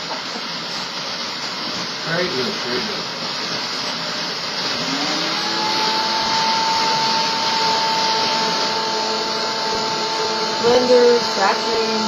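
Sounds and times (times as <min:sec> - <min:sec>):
appliance motor whining: 0:02.0 - 0:12.0.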